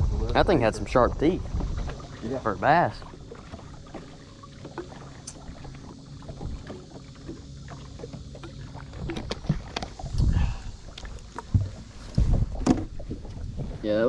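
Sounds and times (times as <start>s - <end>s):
low steady hum: 0.0s - 14.0s
water lapping at boat hull: 0.0s - 14.0s.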